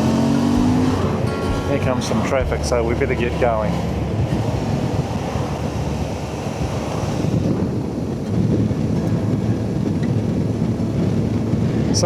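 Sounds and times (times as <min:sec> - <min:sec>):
motorcycle engine running: 0:00.0 - 0:11.9
wind rushing over microphone: 0:00.0 - 0:12.0.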